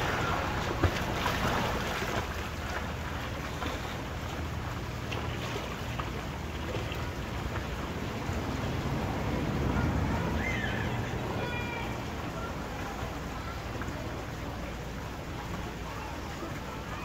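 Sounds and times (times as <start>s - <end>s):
pool water lapping and splashing: 0.0s - 17.0s.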